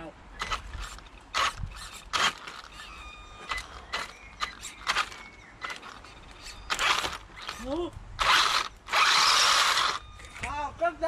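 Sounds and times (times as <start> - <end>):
electric motor whining: 0.4 - 10.4.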